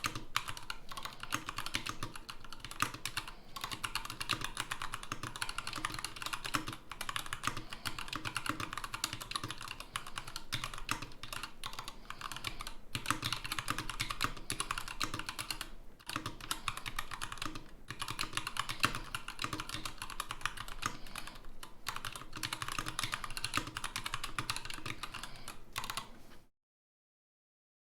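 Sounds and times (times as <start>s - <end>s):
fast typing on mechanical keyboard: 0.0s - 26.1s.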